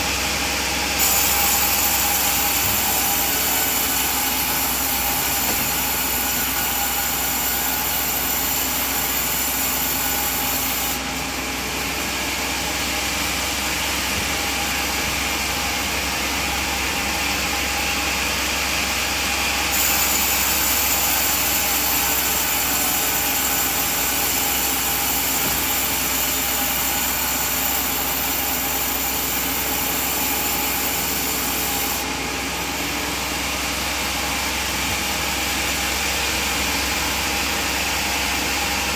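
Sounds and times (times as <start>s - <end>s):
band saw cutting wood: 0.0s - 38.9s.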